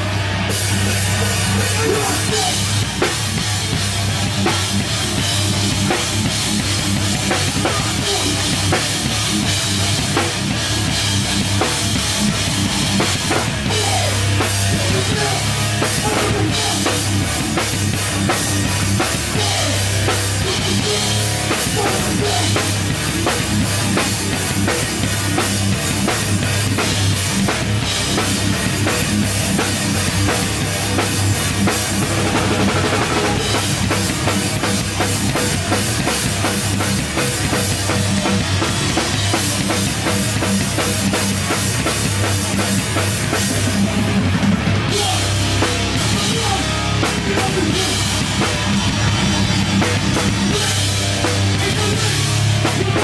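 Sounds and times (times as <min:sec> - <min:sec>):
drum kit: 0:00.0 - 0:53.0
rock band playing live: 0:00.0 - 0:53.0.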